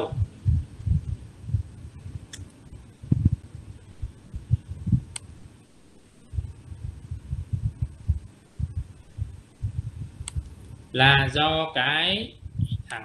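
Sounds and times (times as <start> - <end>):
low thumps and rumble: 0.0 - 5.5, 6.3 - 10.9, 12.4 - 12.9.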